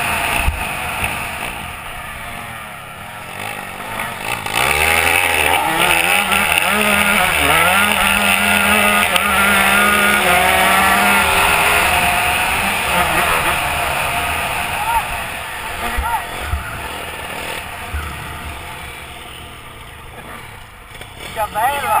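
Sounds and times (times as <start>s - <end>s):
small motorcycle engine revving: 0.0s - 22.0s.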